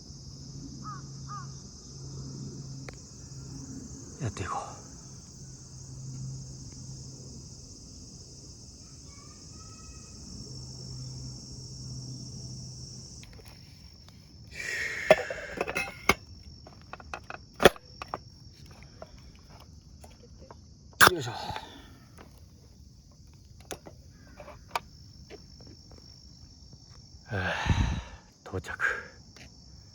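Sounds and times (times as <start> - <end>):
insects chirring: 0.0 - 29.9.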